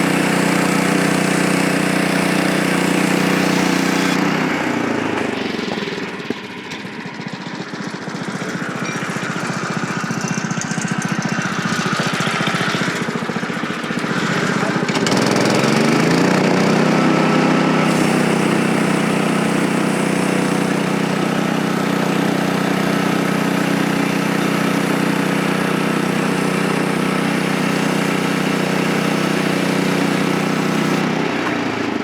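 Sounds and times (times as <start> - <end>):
small gasoline engine running: 0.0 - 32.0.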